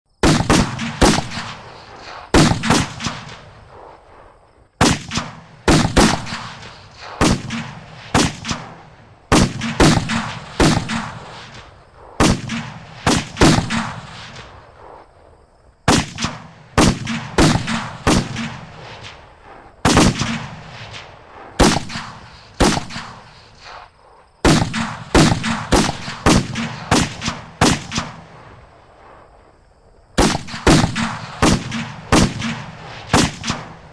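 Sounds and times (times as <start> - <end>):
rifle and musket shots echoing: 0.2 - 15.1, 15.8 - 23.8, 24.4 - 29.3, 30.2 - 33.9.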